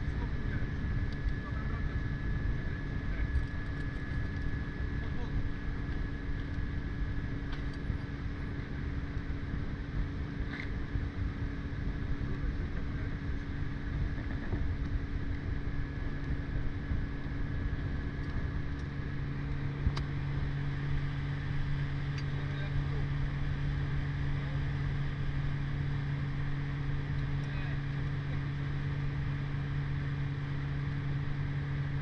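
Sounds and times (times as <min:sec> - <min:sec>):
outboard motor humming: 0:00.0 - 0:32.0
wind: 0:00.0 - 0:32.0.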